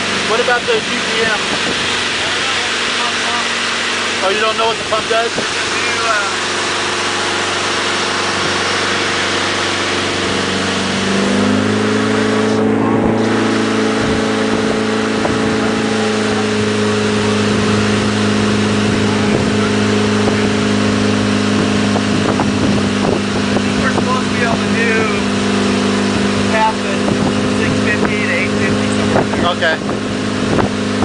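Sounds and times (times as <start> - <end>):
boat engine running: 0.0 - 31.0
water jetting from nozzle: 0.0 - 31.0.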